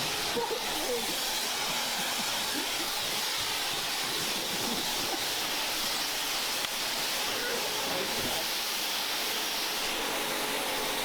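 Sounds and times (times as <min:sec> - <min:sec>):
steady hissing rush of noise: 0:00.0 - 0:11.0.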